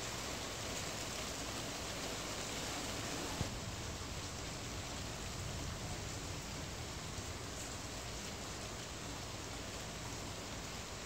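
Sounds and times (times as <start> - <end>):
rain on a tin roof: 0.0 - 11.0.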